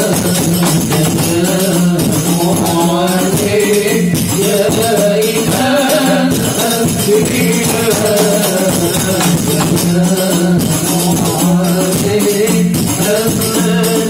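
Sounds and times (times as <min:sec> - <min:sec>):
frame drums beating: 0:00.0 - 0:14.0
men singing: 0:00.0 - 0:14.0.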